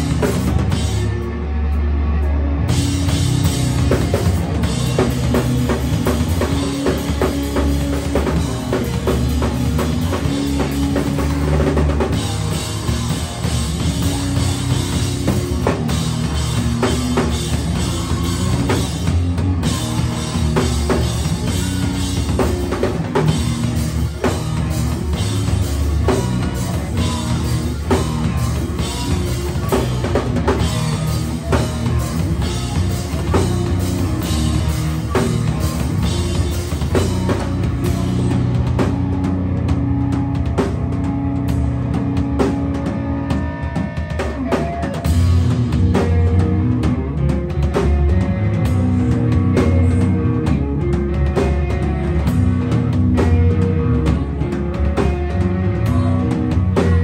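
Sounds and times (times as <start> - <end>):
live hardcore band playing: 0.0 - 57.0.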